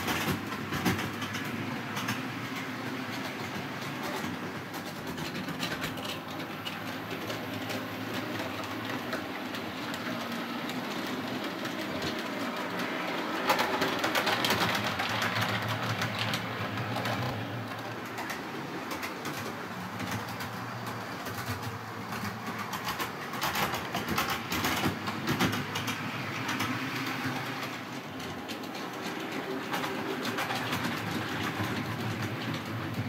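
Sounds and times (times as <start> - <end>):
wheels clicking over rail joints: 0.0 - 33.0.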